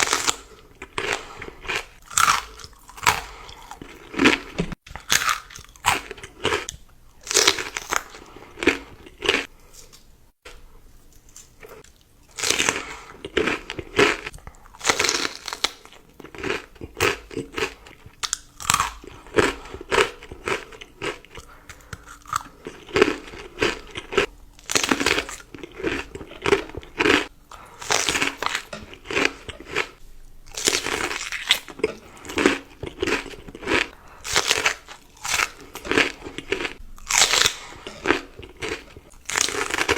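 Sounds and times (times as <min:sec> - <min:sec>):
person chewing crisp food: 0:00.0 - 0:39.9.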